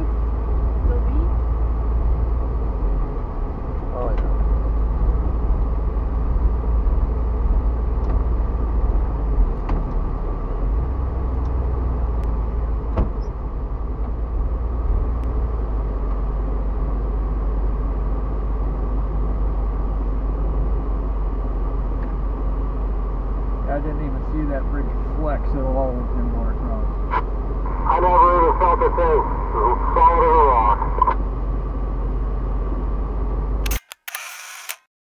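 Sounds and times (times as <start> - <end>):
engine and road rumble: 0.0 - 34.8.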